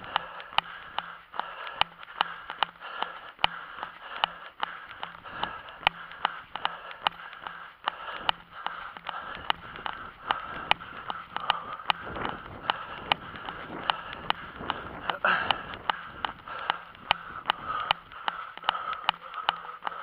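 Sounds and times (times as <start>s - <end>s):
running footsteps on pavement: 0.0s - 20.0s.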